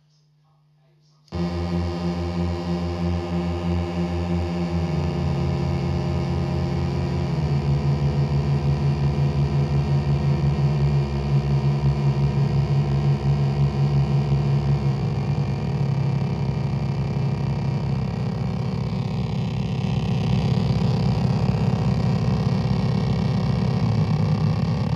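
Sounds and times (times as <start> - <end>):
buzzy electronic drone: 1.3 - 24.9.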